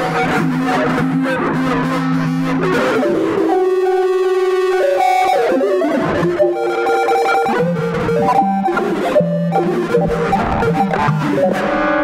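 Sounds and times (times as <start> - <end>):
synth-like electric guitar: 0.0 - 12.0.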